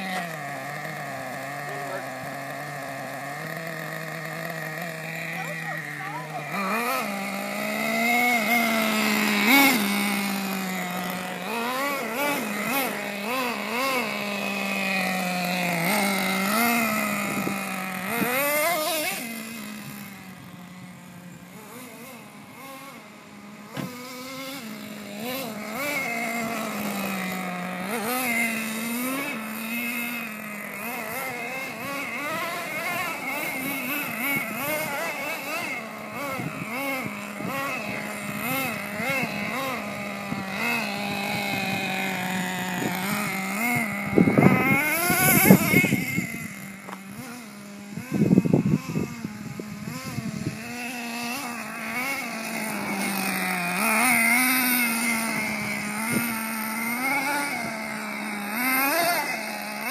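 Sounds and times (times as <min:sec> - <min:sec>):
toy truck nitro engine revving: 0:00.0 - 0:59.9.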